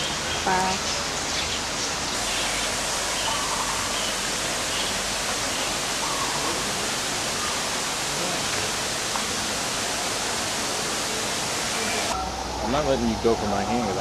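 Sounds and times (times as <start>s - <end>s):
steady rushing hiss: 0.0s - 14.0s.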